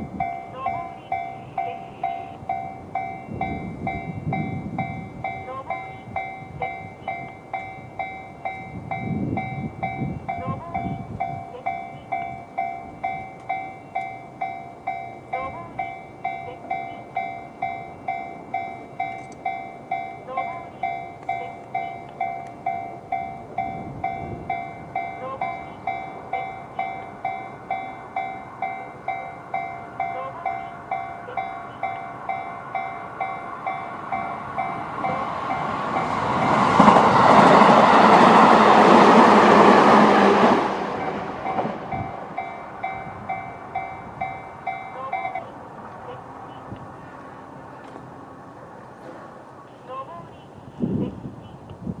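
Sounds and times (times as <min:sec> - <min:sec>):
level crossing warning bell: 0:00.0 - 0:48.0
electric train passing: 0:00.0 - 0:52.0.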